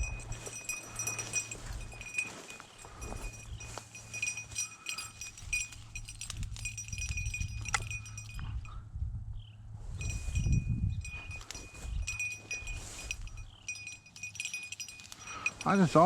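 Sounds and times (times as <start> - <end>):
dog collar bell jingling: 0.0 - 8.8, 10.0 - 16.0.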